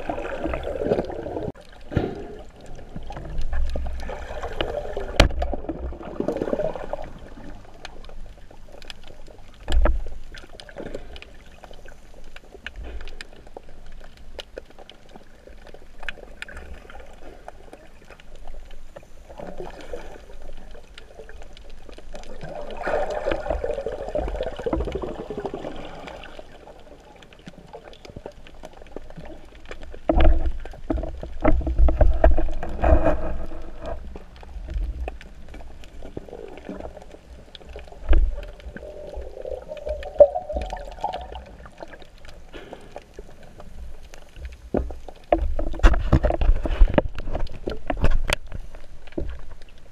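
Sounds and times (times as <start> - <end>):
underwater rumble and gurgling: 0.0 - 49.9.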